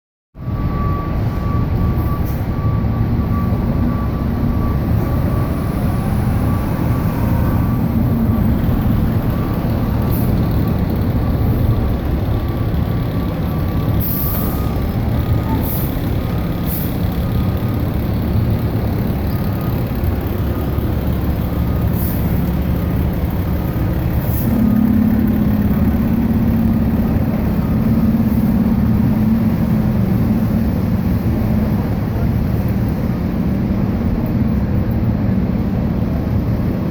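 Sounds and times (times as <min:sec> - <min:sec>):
reversing alarm beeping: 0:00.4 - 0:31.8
diesel engine running: 0:00.4 - 0:36.9.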